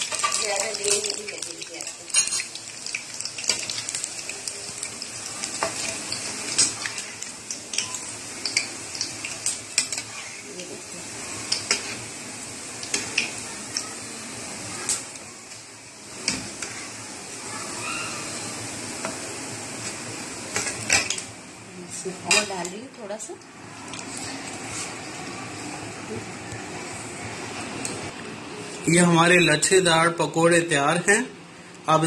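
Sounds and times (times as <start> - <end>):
pakoras deep-frying in oil: 0.0 - 32.0.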